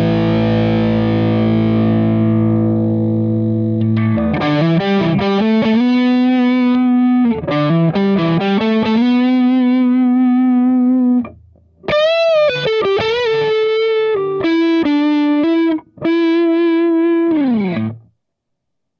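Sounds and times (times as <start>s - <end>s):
distorted electric guitar lead: 0.0s - 18.1s.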